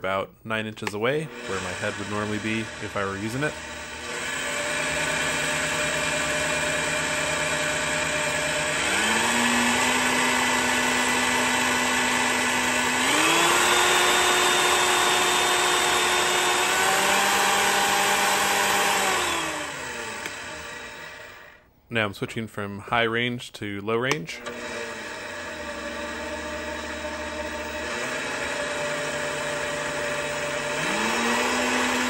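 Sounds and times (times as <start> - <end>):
drill press motor whine: 1.3 - 21.6, 24.4 - 32.0.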